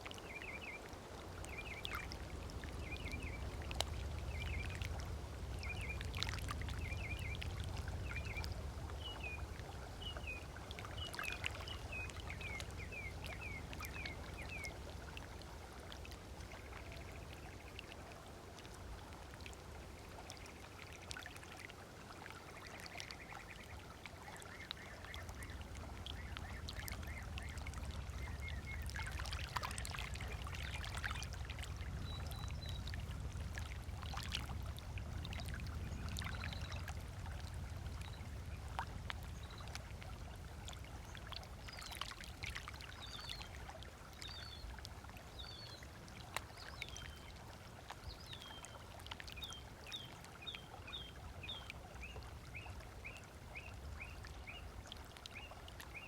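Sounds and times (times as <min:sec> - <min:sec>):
small waves lapping on sand: 0:00.0 - 0:56.0.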